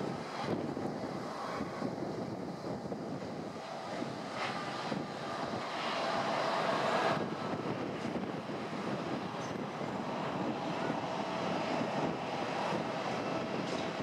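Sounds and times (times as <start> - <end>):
jet airliner roar: 0.0 - 14.0.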